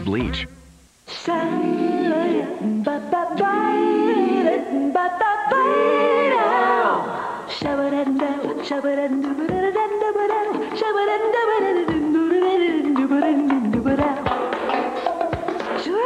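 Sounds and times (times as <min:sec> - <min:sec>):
music with sliding sung notes: 0:00.0 - 0:16.0.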